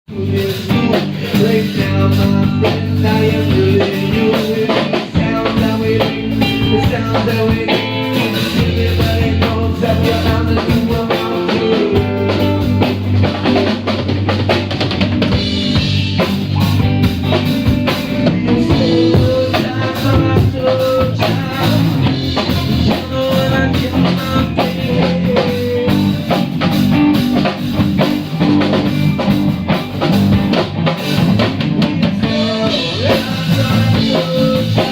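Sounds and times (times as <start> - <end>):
band playing instrumental jam: 0.1 - 34.9
drum kit: 0.1 - 34.9
sustained bass: 0.1 - 34.9.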